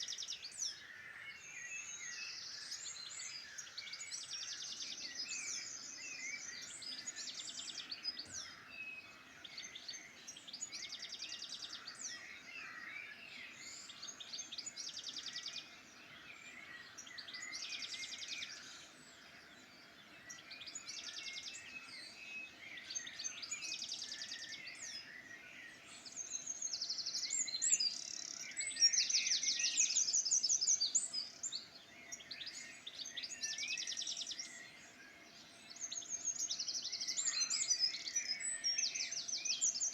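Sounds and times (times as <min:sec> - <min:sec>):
birds chirping: 0:00.1 - 0:39.9.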